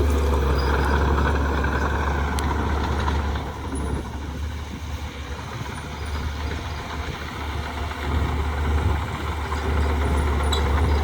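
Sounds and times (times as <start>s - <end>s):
heavy diesel engine drone: 0.0s - 11.0s.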